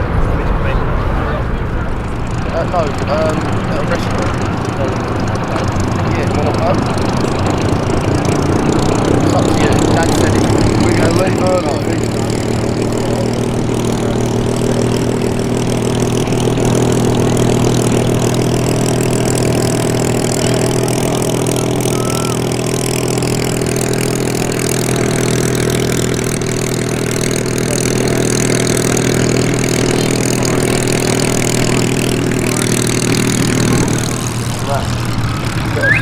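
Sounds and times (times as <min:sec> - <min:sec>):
propeller aircraft flying past: 0:00.0 - 0:36.0.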